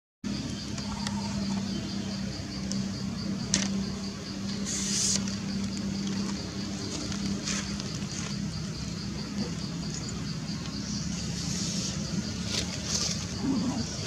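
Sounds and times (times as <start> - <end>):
insects trilling: 0.3 - 14.0
steady low hum: 0.3 - 14.0.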